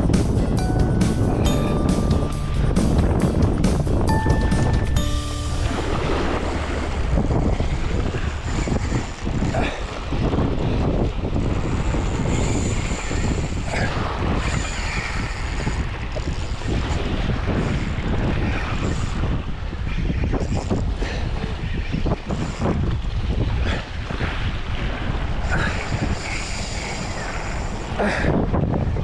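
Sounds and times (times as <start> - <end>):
wind buffeting microphone: 0.0 - 5.0, 5.7 - 29.0.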